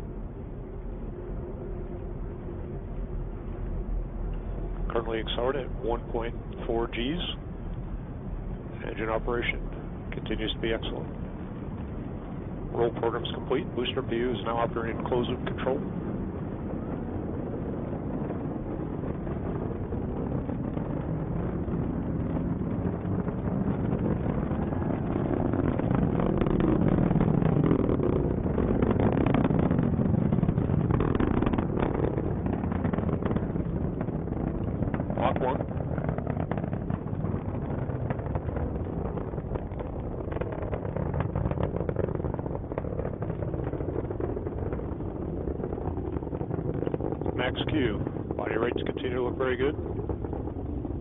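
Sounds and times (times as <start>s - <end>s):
rocket engine rumbling: 0.0s - 51.0s.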